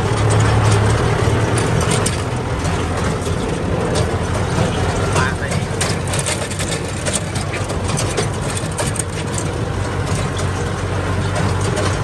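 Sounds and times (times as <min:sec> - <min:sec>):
rotary tiller churning soil: 0:00.0 - 0:12.0
tractor diesel engine droning: 0:00.0 - 0:12.0.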